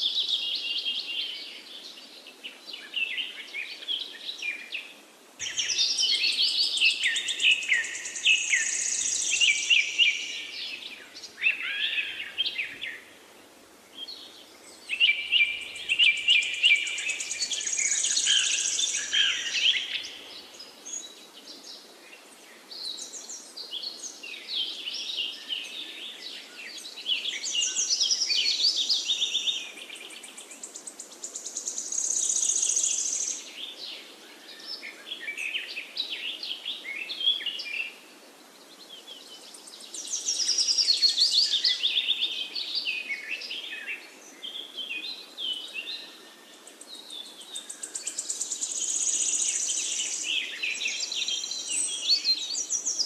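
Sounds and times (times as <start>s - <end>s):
faint steady background hiss: 0.0s - 53.0s
songbirds singing: 0.0s - 53.0s.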